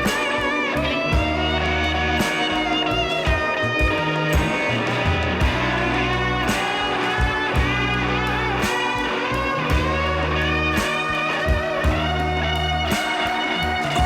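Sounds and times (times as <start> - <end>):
instrumental rock music: 0.0 - 14.0.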